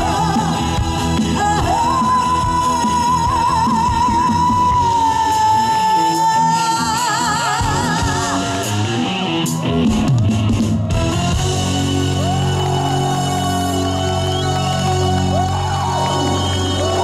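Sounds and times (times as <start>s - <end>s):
live pop rock band: 0.0s - 17.0s.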